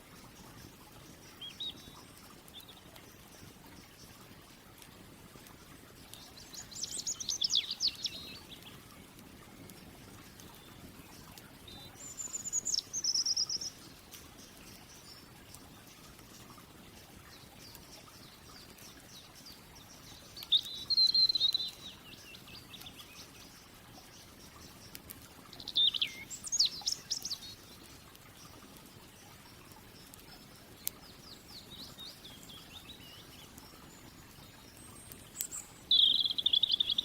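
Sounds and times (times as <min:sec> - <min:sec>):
faint background hiss: 0:00.0 - 0:37.0
songbird singing trilled notes: 0:00.2 - 0:04.2, 0:06.0 - 0:09.8, 0:10.4 - 0:37.0.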